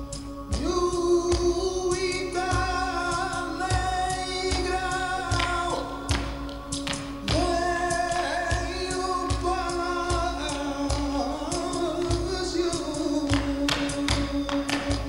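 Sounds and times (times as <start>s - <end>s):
flamenco singing: 0.0s - 15.0s
knocks marking the beat: 0.0s - 15.0s.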